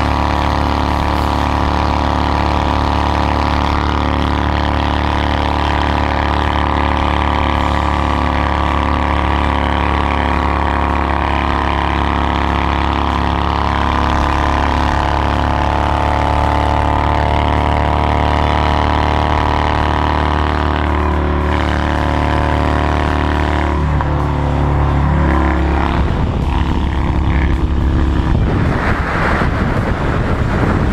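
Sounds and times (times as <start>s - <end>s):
motorcycle engine rumble: 0.0s - 30.9s.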